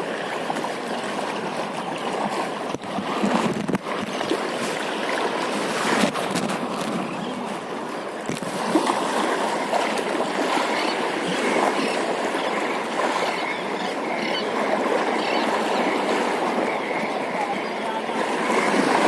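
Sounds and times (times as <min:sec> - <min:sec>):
waves lapping and splashing: 0:00.0 - 0:19.0.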